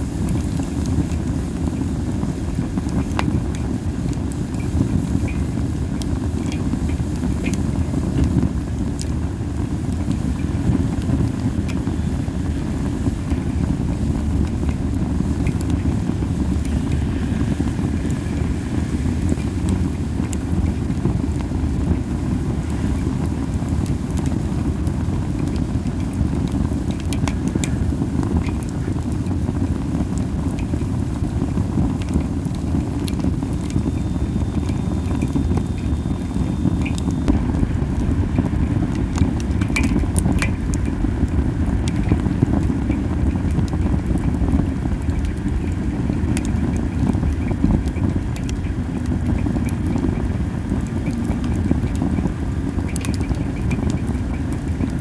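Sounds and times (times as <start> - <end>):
campfire crackling and popping: 0.0 - 55.0
wind rumble on microphone: 0.0 - 55.0.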